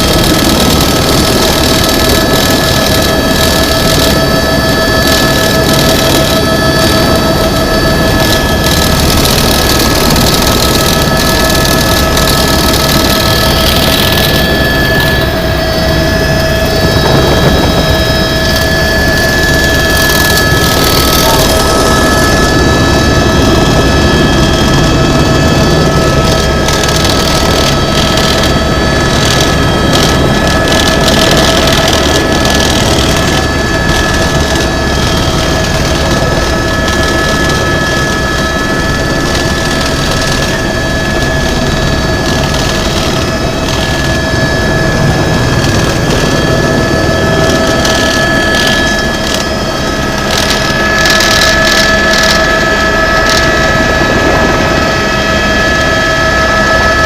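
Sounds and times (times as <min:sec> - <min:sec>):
helicopter turbine and rotor: 0:00.0 - 0:57.0
high turbine whine: 0:00.0 - 0:57.0.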